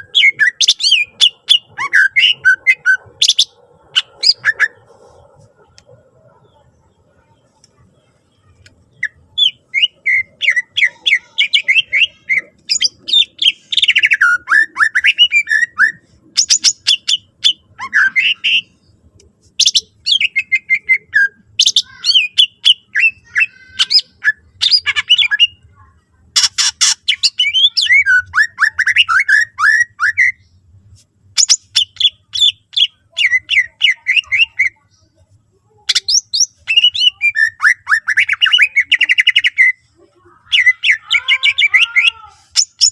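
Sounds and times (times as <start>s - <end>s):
bird singing rapid phrases: 0.0s - 30.7s, 31.3s - 42.9s.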